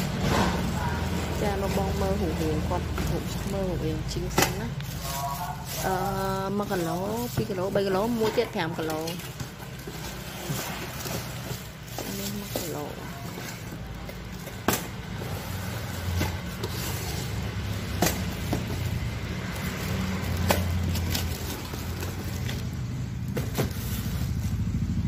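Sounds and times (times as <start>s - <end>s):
low engine-like rumble: 0.0s - 25.0s.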